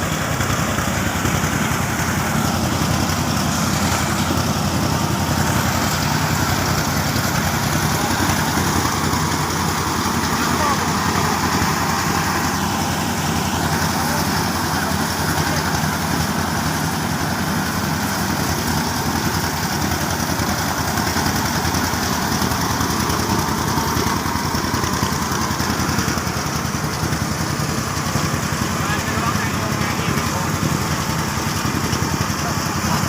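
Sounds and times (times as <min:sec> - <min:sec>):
threshing machine engine chugging: 0:00.0 - 0:33.0
constant hiss: 0:01.2 - 0:33.0.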